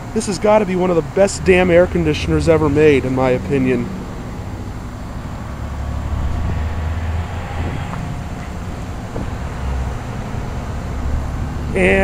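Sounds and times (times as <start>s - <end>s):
compressor humming: 0.0s - 12.0s
fan rushing: 0.4s - 12.0s.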